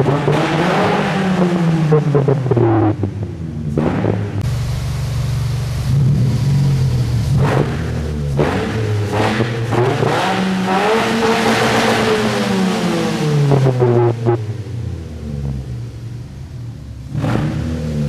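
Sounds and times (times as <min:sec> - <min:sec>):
exhaust cracks: 0:00.0 - 0:14.6
car engine revving: 0:00.0 - 0:18.0.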